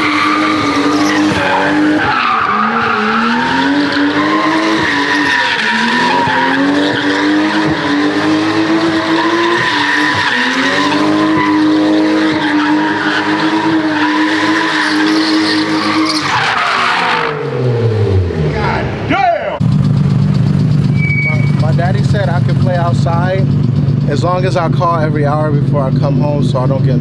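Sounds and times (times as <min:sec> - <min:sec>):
car engine at high revs: 0:00.0 - 0:27.0
tires screeching: 0:00.0 - 0:27.0.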